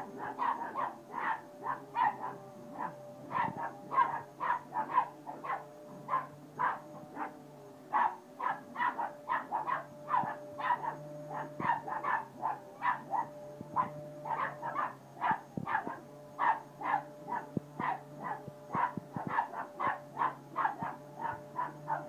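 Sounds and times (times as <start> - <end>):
small dogs barking: 0.0 - 22.0.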